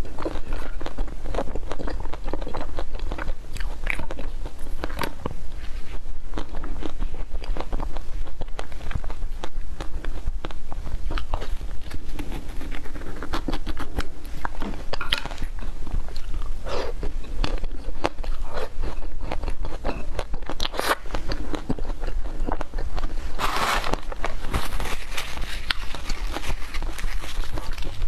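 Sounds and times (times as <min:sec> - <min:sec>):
crunching ice cream coating: 0:00.0 - 0:28.0
steady low hum: 0:00.0 - 0:28.0.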